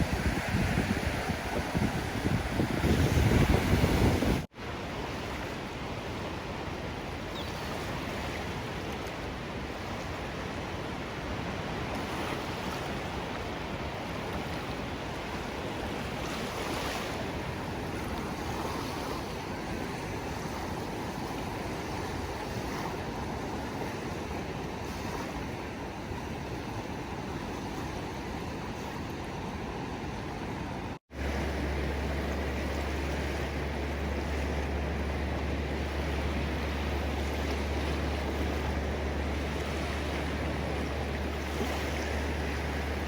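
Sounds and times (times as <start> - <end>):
ocean surf washing: 0.0 - 43.0.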